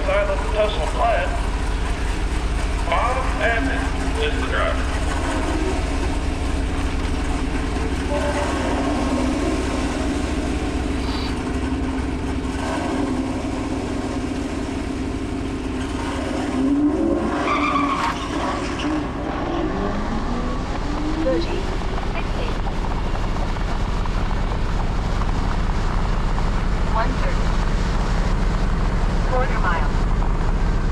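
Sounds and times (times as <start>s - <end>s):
car engines and tyre noise: 0.0s - 30.9s
rising engine notes: 0.0s - 30.9s.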